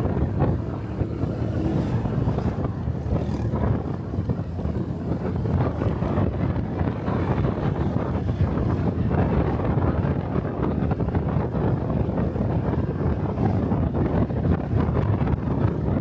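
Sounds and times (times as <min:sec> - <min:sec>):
motorcycle engine running: 0:00.0 - 0:14.2
wind buffeting microphone: 0:00.0 - 0:16.0.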